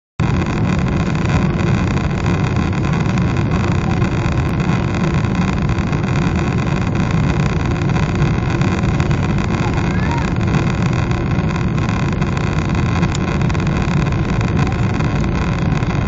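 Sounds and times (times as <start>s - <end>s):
jet engines droning: 0.2s - 16.0s.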